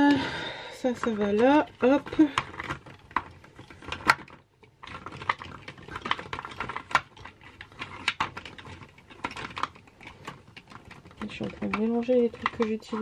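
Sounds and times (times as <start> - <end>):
plastic containers clicking: 0.8 - 13.0.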